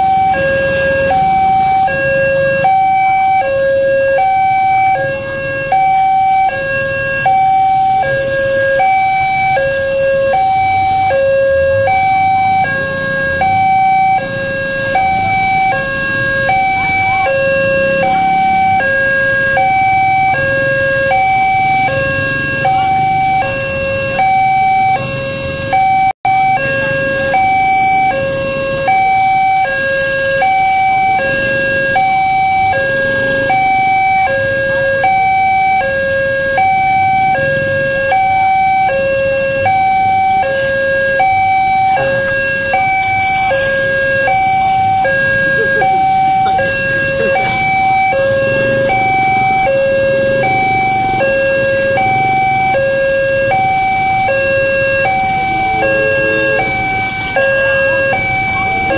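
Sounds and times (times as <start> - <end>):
motorbike engines idling: 0.0 - 58.9
two-tone crossing alarm: 0.0 - 58.9.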